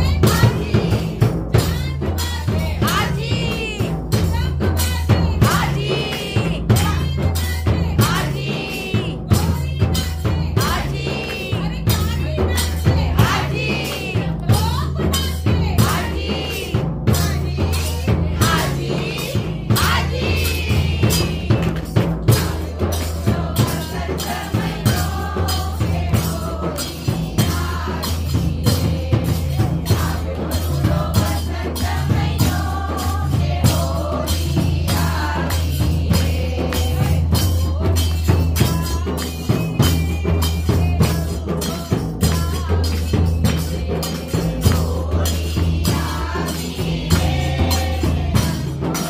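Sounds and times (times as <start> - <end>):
light percussion: 0.0 - 49.0
rhythmic hand clapping: 0.0 - 49.0
women singing devotional song: 0.0 - 49.0.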